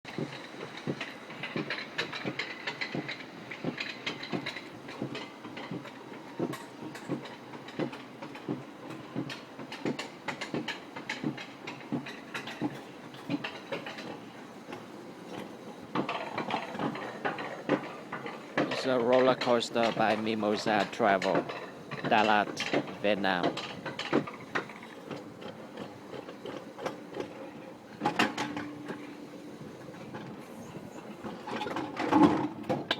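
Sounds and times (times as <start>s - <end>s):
roller coaster rattling on track: 0.1s - 32.9s.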